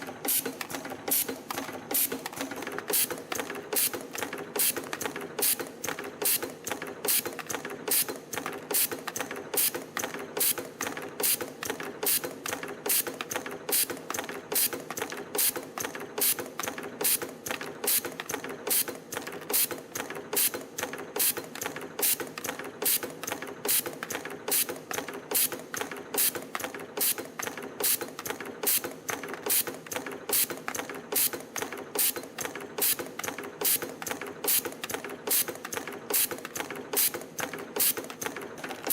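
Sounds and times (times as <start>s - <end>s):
spring machine clicking: 0.0s - 38.9s.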